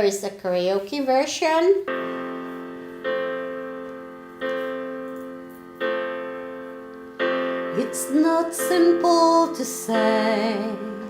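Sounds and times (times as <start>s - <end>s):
piano chords: 1.6s - 11.0s.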